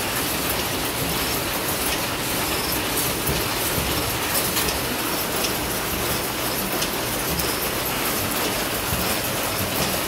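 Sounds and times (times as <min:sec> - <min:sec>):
power loom running: 0:00.0 - 0:10.0.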